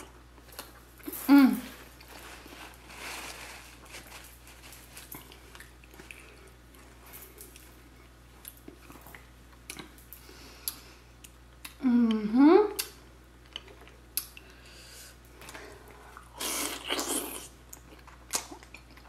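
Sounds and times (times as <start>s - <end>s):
person chewing: 0.0s - 11.8s, 12.8s - 19.0s.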